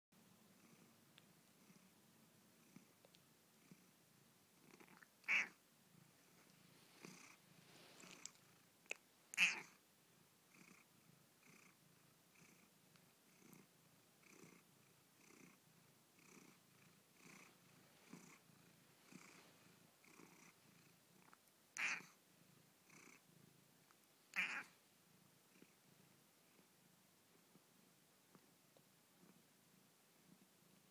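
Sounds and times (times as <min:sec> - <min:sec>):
cat purring faintly: 0:00.2 - 0:30.9.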